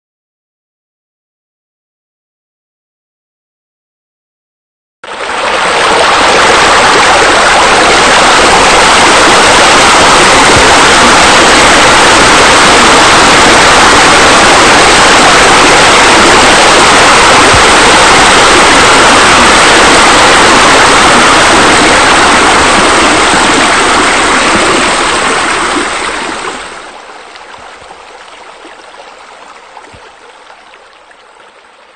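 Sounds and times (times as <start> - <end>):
splashing water rushing: 5.0 - 31.9.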